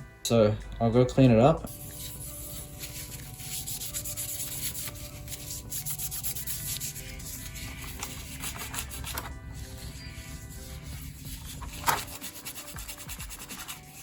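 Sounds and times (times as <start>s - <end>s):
scratchy scrubbing of thermal paste: 1.7s - 14.0s.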